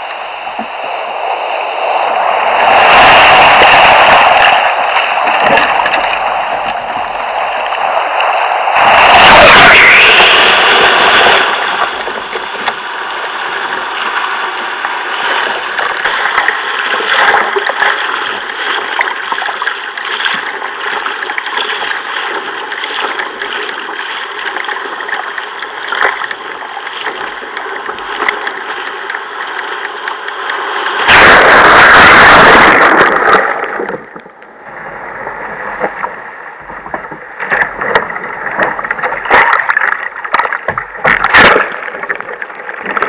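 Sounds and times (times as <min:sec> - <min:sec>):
surf rushing and splashing: 0:00.0 - 0:43.0
wave breaking over kayak: 0:00.0 - 0:43.0.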